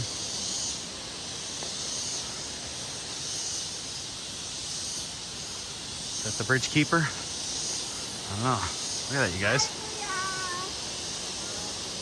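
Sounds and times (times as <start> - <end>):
cicadas shrill drone: 0.0 - 12.0
steady low hiss: 0.0 - 12.0.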